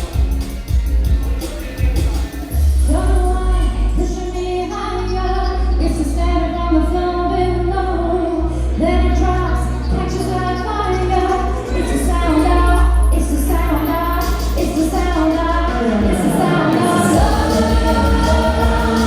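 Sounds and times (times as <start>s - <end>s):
pop backing track with heavy bass: 0.0s - 19.0s
vocal trio singing in harmony: 2.6s - 19.0s.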